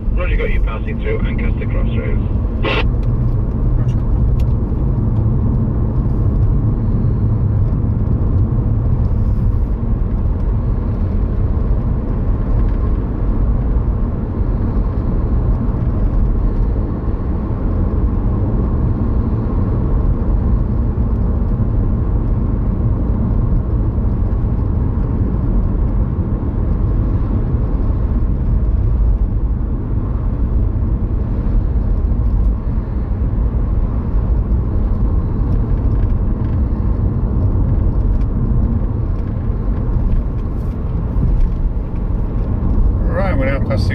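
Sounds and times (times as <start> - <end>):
car engine rumble: 0.0 - 43.9.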